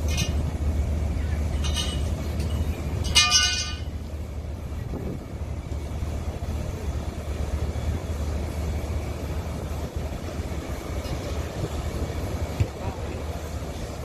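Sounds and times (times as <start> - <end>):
fire engine pump rumbling: 0.0 - 14.0.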